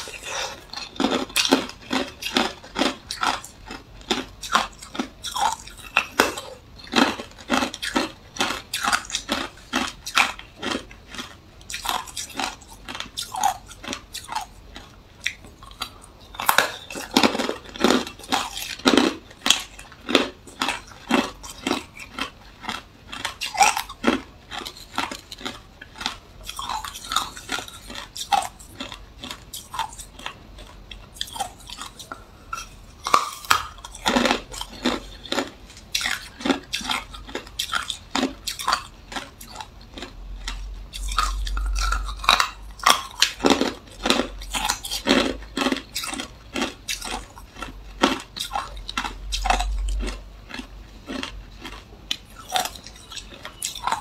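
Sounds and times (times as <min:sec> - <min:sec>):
ice crunching between teeth: 0:00.0 - 0:54.0.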